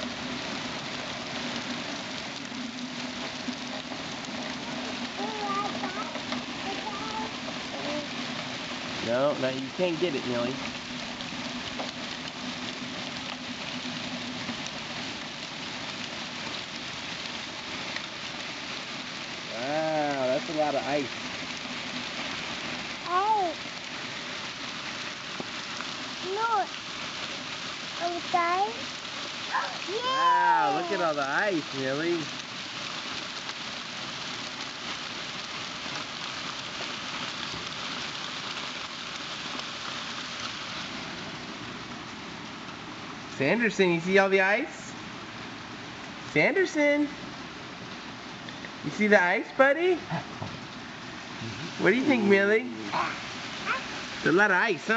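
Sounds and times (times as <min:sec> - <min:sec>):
hail pelting concrete: 0:00.0 - 0:54.9.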